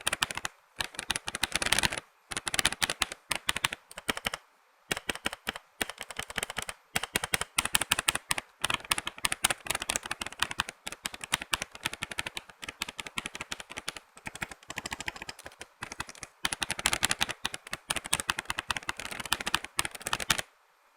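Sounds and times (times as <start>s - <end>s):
mechanical keyboard typing: 0.0s - 20.5s.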